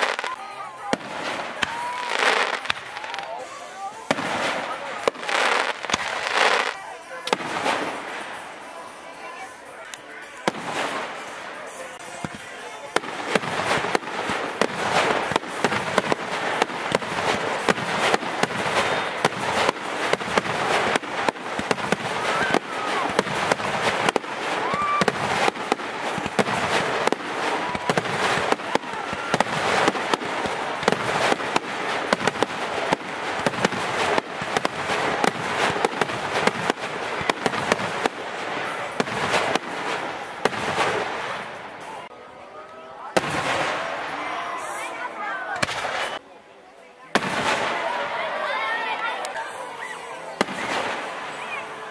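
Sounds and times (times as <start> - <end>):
fireworks bangs and crackling: 0.0 - 42.1, 43.0 - 46.2, 47.1 - 49.6, 50.2 - 51.9.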